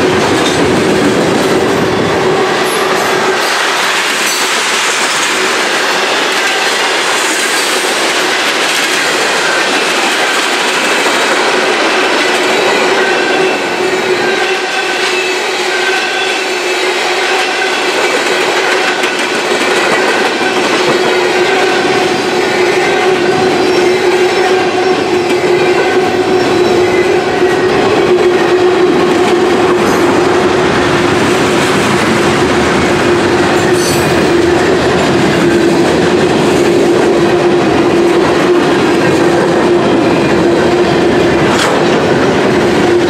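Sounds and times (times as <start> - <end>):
train wheels on rail: 0.0 - 43.0.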